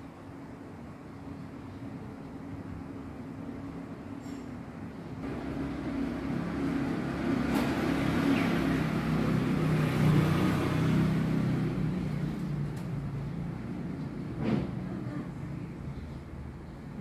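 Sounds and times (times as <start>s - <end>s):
traffic engine hum: 0.0s - 17.0s.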